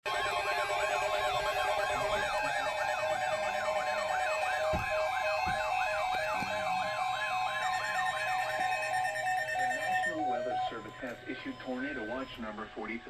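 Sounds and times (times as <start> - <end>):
electronic siren sweeping: 0.1 - 12.6
steady high tone: 0.1 - 13.0.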